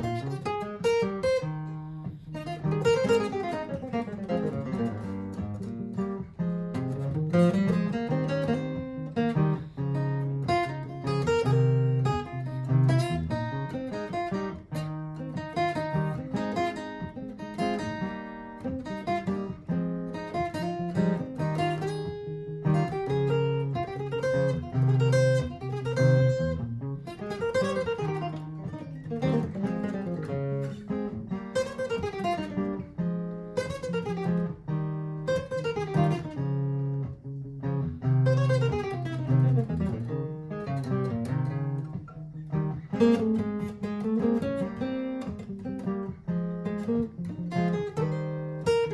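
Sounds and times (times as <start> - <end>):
strummed acoustic guitar chords: 0.0 - 48.9.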